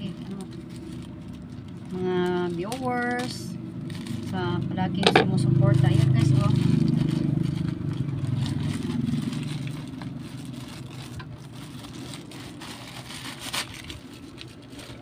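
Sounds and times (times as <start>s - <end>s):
plastic pouch rustling: 0.0s - 4.8s, 6.0s - 15.0s
vehicle engine humming: 0.0s - 15.0s.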